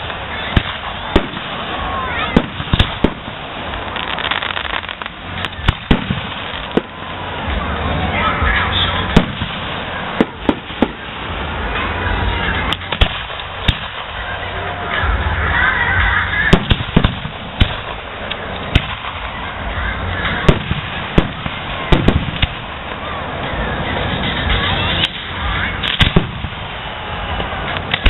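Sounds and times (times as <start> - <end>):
firework shells bursting: 0.0 - 7.6, 9.1 - 14.4, 16.5 - 19.7, 20.3 - 23.2, 24.1 - 28.0.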